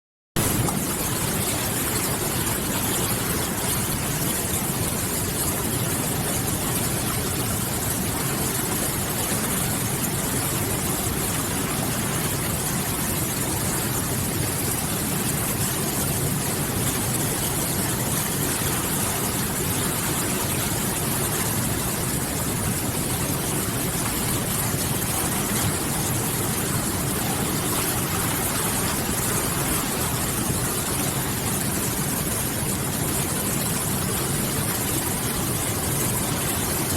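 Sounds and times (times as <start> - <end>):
river water rushing: 0.4 - 36.9.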